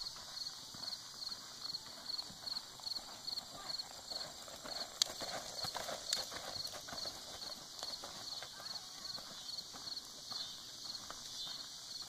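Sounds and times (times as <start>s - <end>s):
horse hoofbeats on soft dirt: 0.0s - 12.0s.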